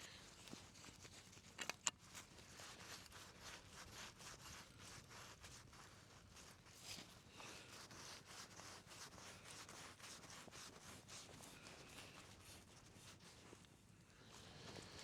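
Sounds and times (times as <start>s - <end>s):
faint rustling and scraping: 0.0s - 15.0s.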